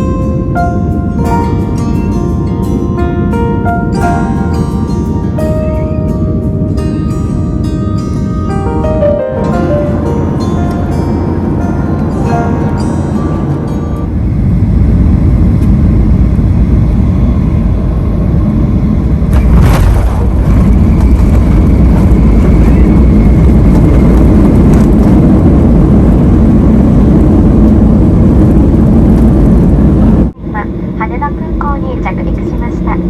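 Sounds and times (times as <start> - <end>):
vehicle interior low rumble: 0.0 - 33.0.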